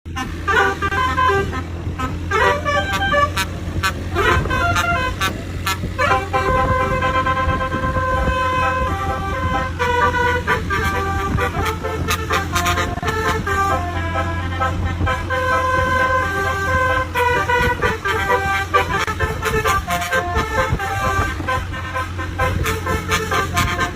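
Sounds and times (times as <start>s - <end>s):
bus engine hum: 0.0s - 23.9s
multi-tone bus horn melody: 0.1s - 23.9s.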